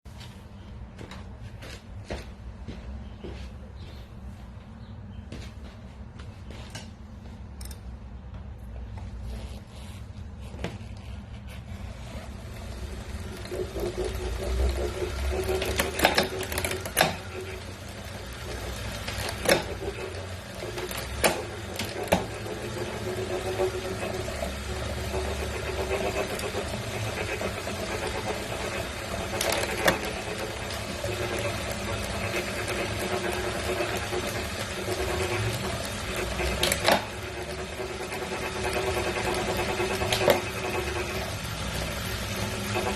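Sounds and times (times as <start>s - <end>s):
bike trainer humming and grinding: 0.0s - 42.9s.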